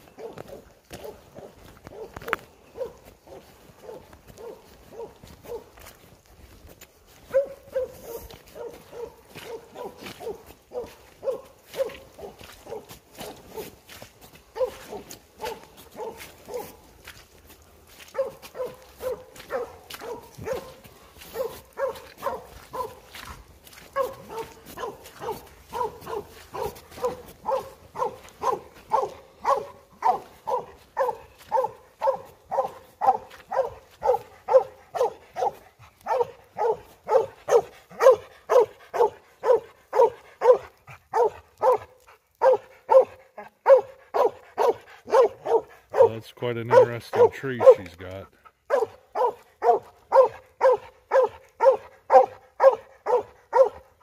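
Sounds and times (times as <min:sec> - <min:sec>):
dog barking: 0:00.0 - 0:06.0, 0:07.1 - 0:17.2, 0:18.0 - 0:54.0.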